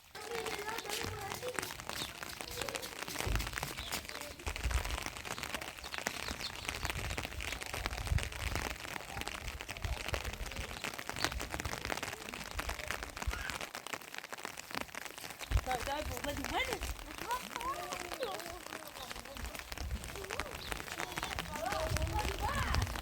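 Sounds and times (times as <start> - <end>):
heavy rain pattering: 0.0 - 23.0.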